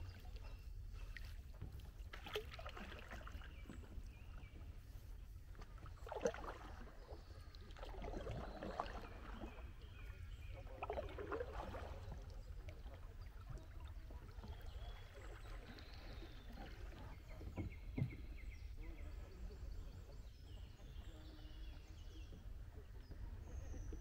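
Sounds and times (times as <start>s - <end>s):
paddle splashing water: 0.0s - 24.0s.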